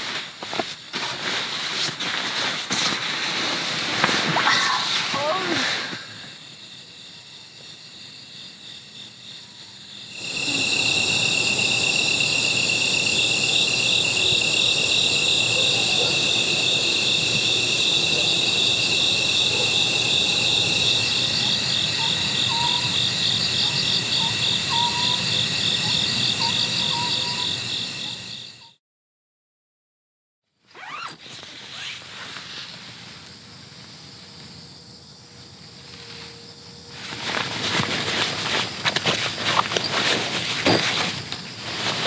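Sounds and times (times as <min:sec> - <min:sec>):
insects trilling: 0:00.1 - 0:28.8, 0:30.8 - 0:42.0.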